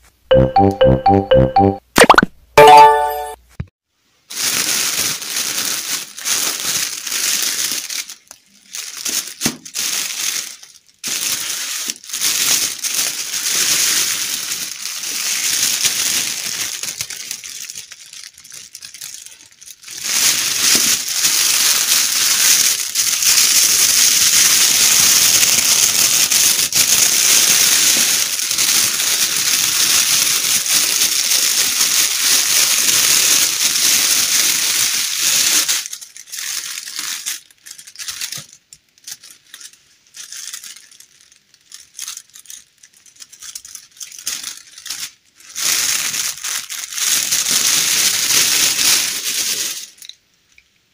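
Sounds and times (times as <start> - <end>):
plastic wrapping crinkling: 4.3 - 50.6.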